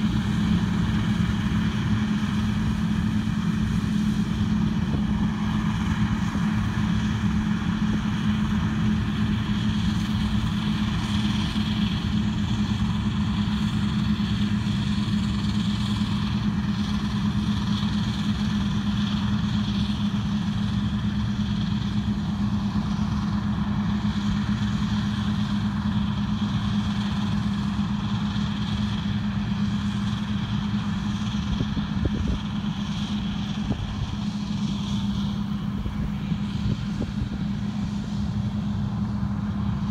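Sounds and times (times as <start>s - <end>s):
farm machinery engine humming: 0.0s - 39.9s.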